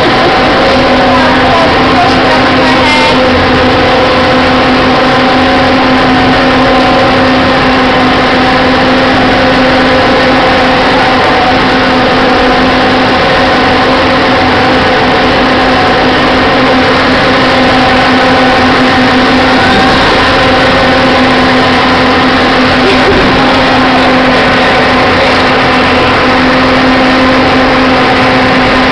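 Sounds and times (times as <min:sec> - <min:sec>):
motorboat engine droning: 0:00.0 - 0:28.9
water rushing: 0:00.0 - 0:28.9.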